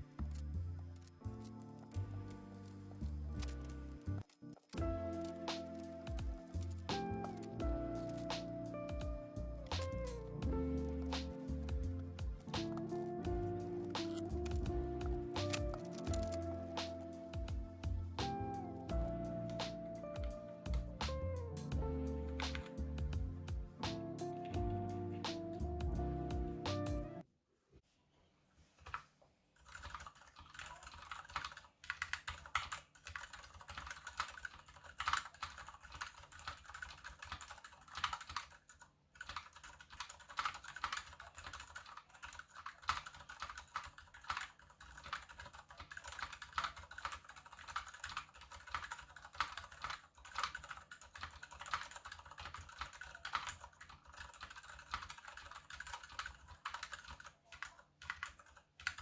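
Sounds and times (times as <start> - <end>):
typing on mechanical keyboard: 0.0 - 21.0, 21.7 - 22.8, 28.8 - 59.0.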